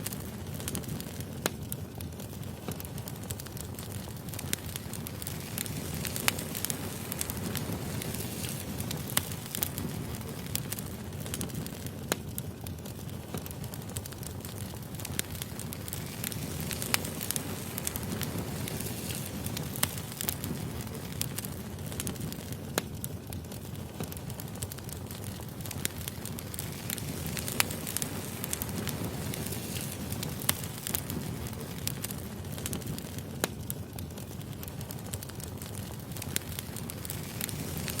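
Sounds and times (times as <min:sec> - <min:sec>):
firewood crackling and popping: 0:00.0 - 0:38.0
flames rumbling: 0:00.0 - 0:38.0.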